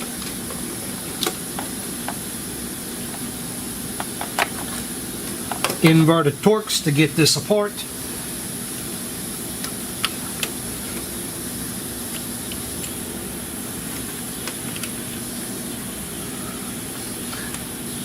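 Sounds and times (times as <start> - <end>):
fan hum and hiss: 0.0 - 18.0.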